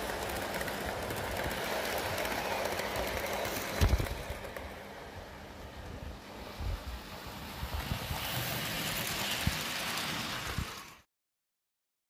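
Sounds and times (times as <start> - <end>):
model train wheels rumbling: 0.0 - 11.1.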